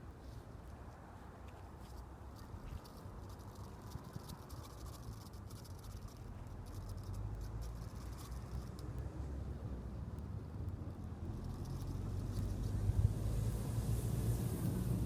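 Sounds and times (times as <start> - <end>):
light clicks and ticks: 0.6 - 12.7
wind rumble on microphone: 2.2 - 15.0.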